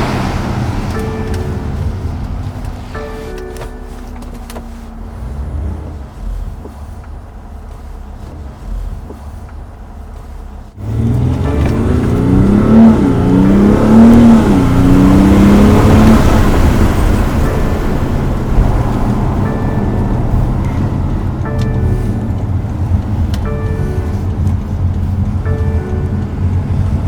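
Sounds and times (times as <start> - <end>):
diesel car engine accelerating: 0.0 - 27.0.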